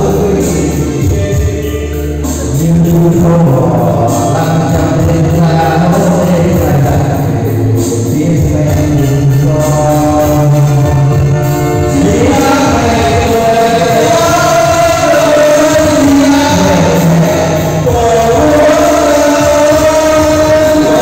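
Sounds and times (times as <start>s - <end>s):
backing track through speakers: 0.0s - 21.0s
men singing karaoke: 0.0s - 21.0s.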